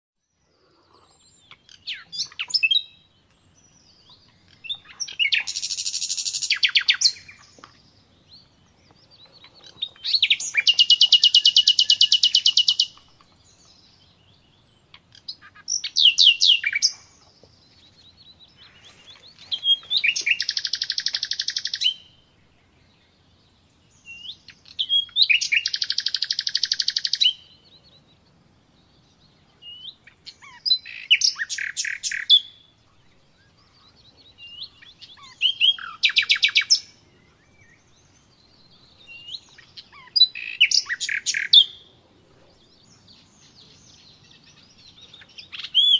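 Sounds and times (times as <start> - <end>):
songbird singing trills: 0.2 - 45.9.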